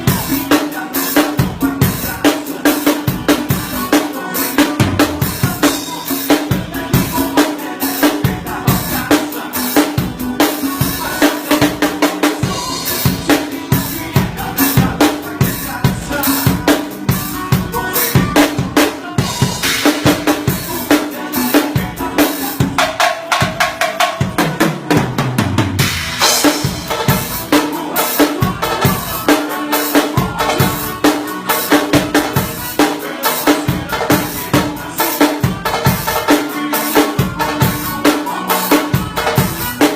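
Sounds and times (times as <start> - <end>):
drum kit groove: 0.0 - 39.9
instrumental music: 0.0 - 39.9.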